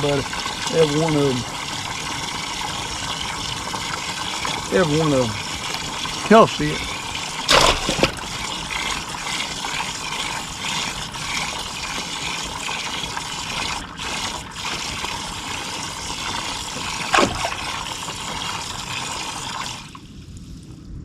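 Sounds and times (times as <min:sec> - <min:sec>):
water trickling and splashing: 0:00.0 - 0:20.1.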